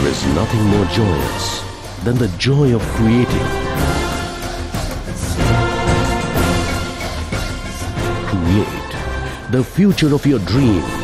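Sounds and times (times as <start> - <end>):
instrumental theme music: 0.0 - 11.0.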